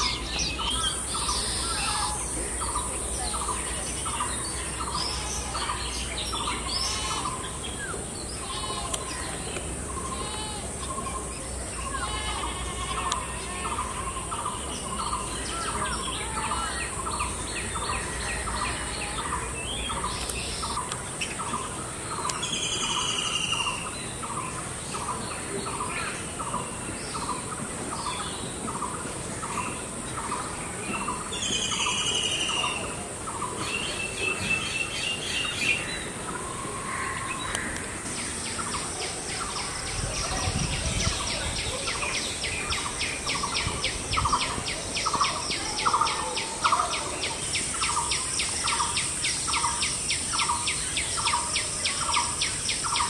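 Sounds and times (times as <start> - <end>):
birds chirping: 0.0 - 53.0
loud bird calls: 0.0 - 53.0
steady high hiss: 0.0 - 53.0.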